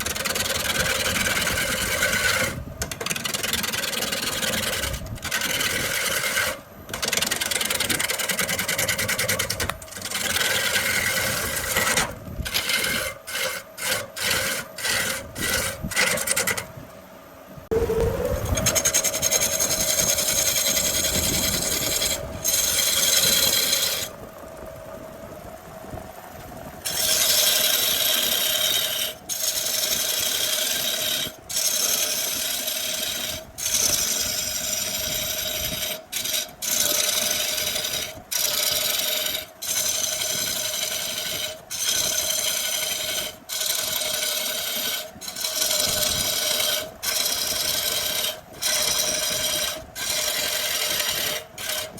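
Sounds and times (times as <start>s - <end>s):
turning tool scraping wood: 0.0s - 16.7s, 17.7s - 24.2s, 26.8s - 51.9s
wood lathe humming: 0.0s - 16.8s, 17.7s - 24.2s, 26.8s - 51.9s.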